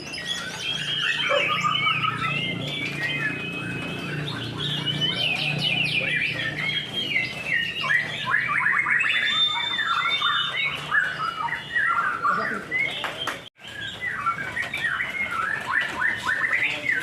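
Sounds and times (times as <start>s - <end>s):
birds singing whistles and trills: 0.0s - 17.0s.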